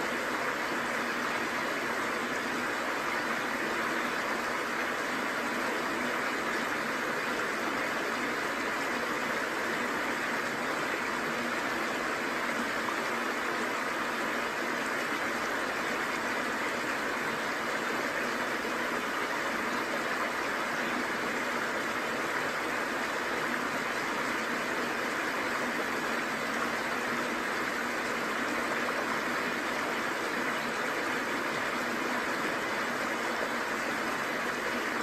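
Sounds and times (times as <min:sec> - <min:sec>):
fast stream: 0:00.0 - 0:35.0
small waterfall rushing: 0:00.0 - 0:35.0.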